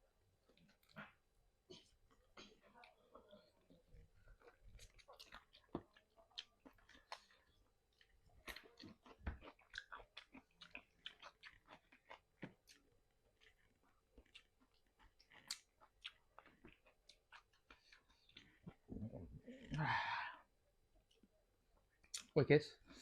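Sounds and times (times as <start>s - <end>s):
chewing and crunching food: 0.4s - 19.9s.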